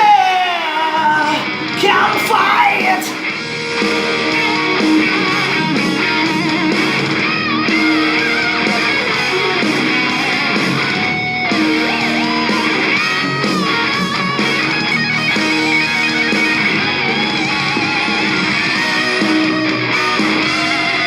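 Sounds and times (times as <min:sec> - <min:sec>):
electric guitar: 0:00.0 - 0:21.0
rock band playing: 0:00.0 - 0:21.0.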